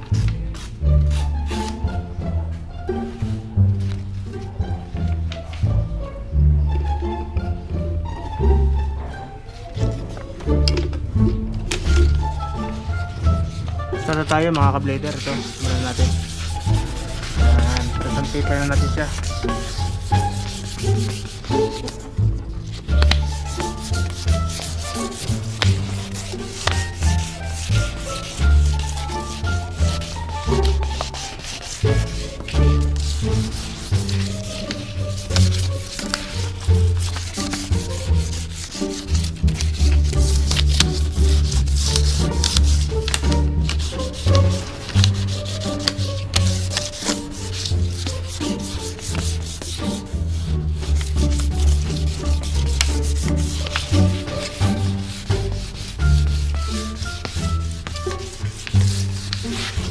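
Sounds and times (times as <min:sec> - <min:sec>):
background music with bass line: 0:00.0 - 0:58.2
sandpaper rubbing on plastic: 0:11.6 - 0:59.9.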